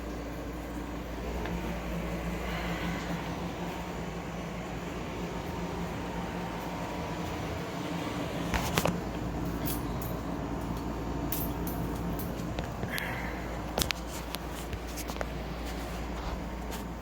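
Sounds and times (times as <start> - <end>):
low hum with hiss: 0.0 - 17.0.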